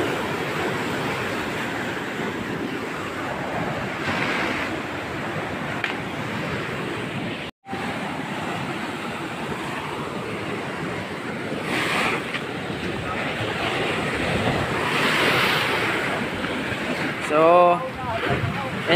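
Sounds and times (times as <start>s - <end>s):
surf breaking against seawall: 0.0s - 7.1s, 7.7s - 18.9s
wind on microphone: 0.0s - 18.9s.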